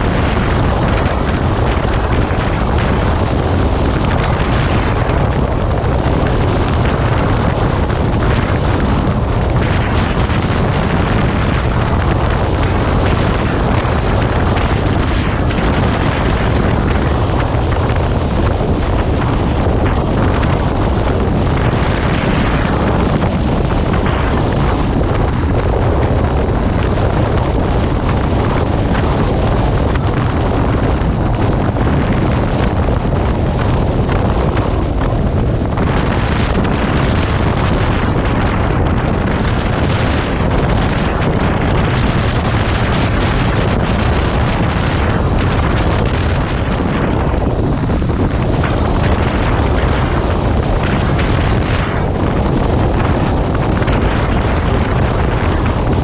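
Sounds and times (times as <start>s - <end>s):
road noise: 0.0s - 56.0s
wind buffeting microphone: 0.0s - 56.0s.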